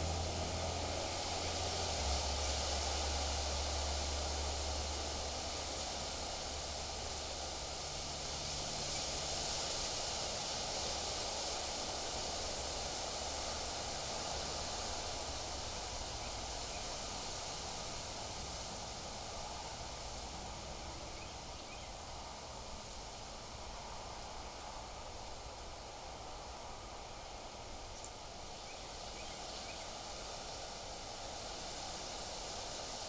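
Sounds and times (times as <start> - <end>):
wind rustling through trees: 0.0 - 33.0.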